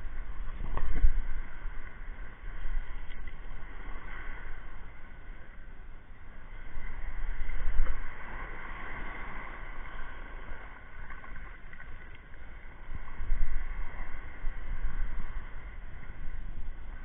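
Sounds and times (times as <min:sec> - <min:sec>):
sea water washing and splashing: 0:00.0 - 0:17.0
wind gusting on microphone: 0:00.0 - 0:17.0.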